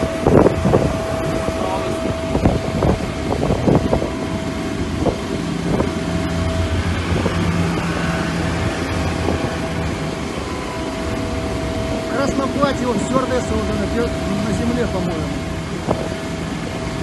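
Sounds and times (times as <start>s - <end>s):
engine drone: 0.0s - 17.0s
thin whine: 0.0s - 17.0s
wind rumbling on microphone: 0.0s - 17.0s.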